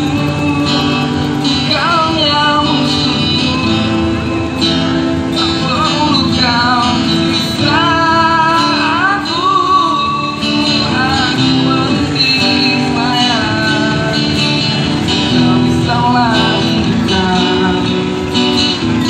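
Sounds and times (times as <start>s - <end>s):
acoustic guitar strumming: 0.0s - 19.0s
man singing into microphone: 0.0s - 19.0s.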